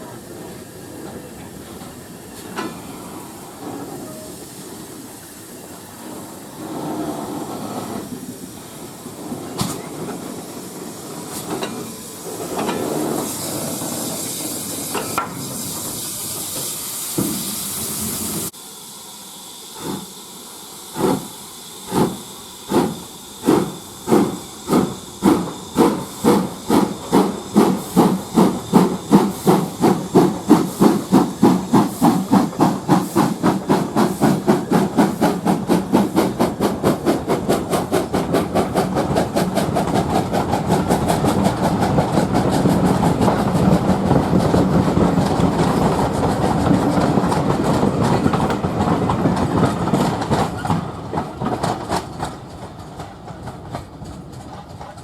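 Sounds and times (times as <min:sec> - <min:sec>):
steam hissing: 0:00.0 - 0:54.8
steam locomotive chuffing: 0:00.0 - 0:55.0.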